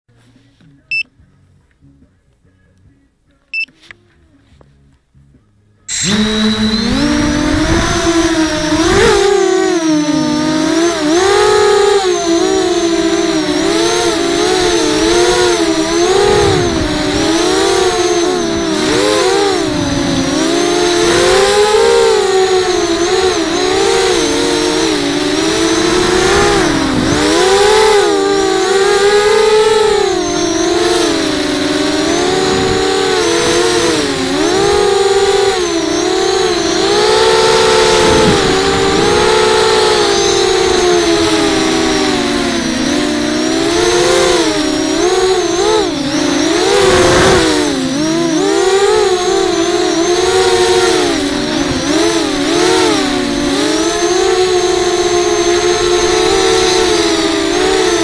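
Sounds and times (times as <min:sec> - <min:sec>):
quadcopter motors whining: 0:05.9 - 0:58.0.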